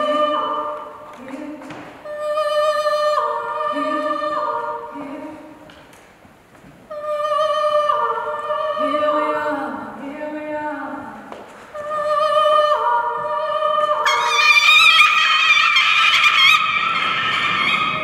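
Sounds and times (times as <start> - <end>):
unaccompanied voices singing: 0.0 - 5.8, 6.9 - 18.0.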